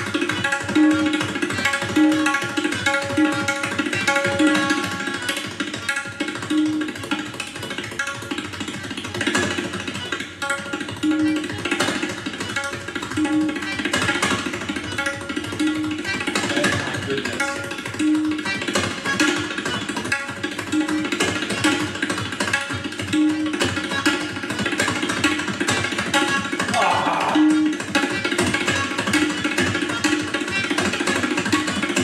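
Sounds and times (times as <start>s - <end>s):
tabla drumming: 0.0s - 32.0s.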